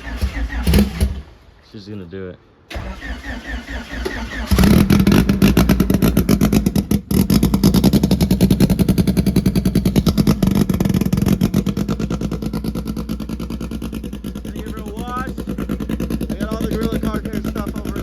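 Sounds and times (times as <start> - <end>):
car engine cranking and idling: 0.0 - 1.5, 2.7 - 18.0.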